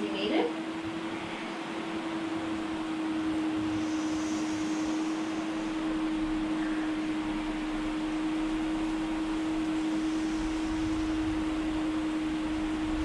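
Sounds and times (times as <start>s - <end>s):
fan air hiss: 0.0s - 13.0s
fan motor hum: 0.0s - 13.0s.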